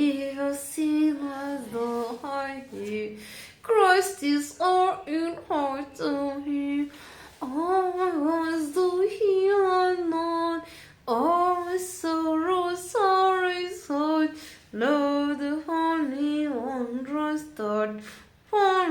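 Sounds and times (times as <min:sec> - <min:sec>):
woman singing a hymn: 0:00.0 - 0:18.9.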